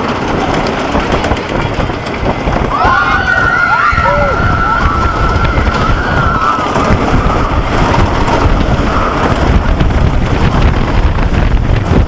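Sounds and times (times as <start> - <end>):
roller coaster rumbling on track: 0.0 - 12.0
wind rushing over microphone: 0.0 - 12.0.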